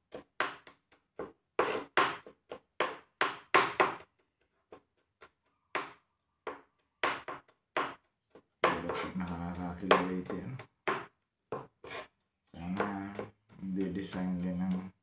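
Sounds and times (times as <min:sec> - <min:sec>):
knife chopping on plastic board: 0:00.0 - 0:15.0.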